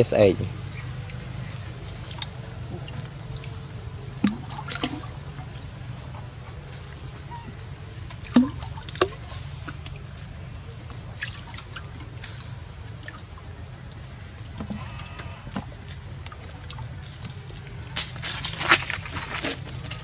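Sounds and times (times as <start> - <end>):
water splashing in a jar: 0.6 - 20.0.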